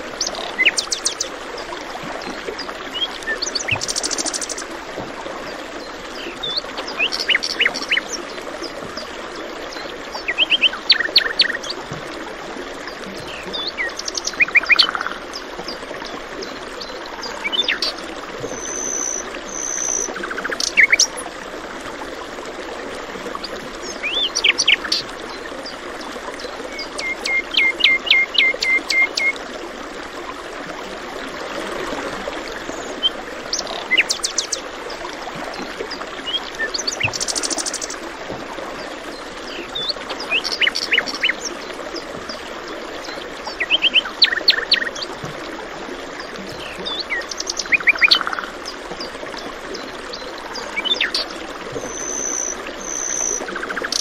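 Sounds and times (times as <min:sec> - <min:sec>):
trickle of running water: 0:00.0 - 0:54.0.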